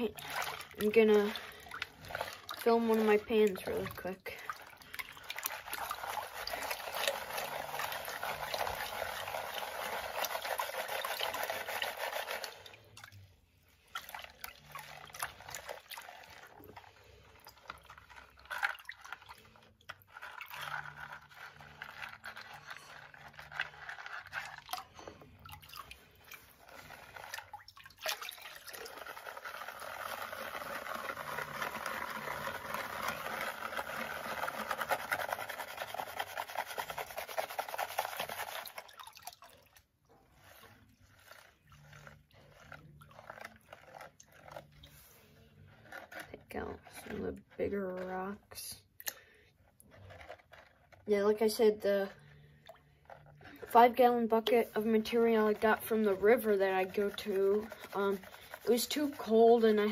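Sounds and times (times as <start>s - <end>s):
scattered water splashes: 0.0s - 13.2s, 13.8s - 39.8s, 51.1s - 59.9s
water sloshing in a pan: 0.0s - 59.9s.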